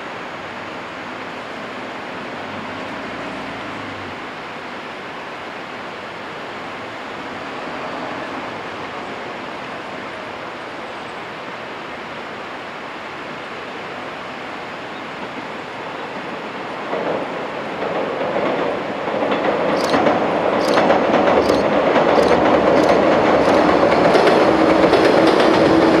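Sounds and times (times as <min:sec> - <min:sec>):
river rushing over rapids: 0:00.0 - 0:26.0.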